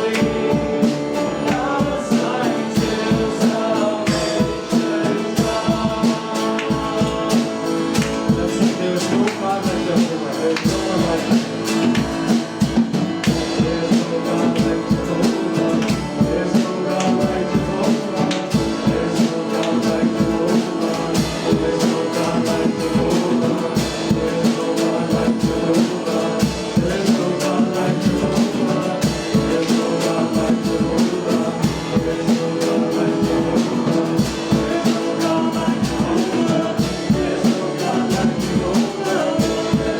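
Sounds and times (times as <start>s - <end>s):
drum kit beat: 0.0s - 39.9s
guitar: 0.0s - 39.9s
singing: 0.0s - 39.9s.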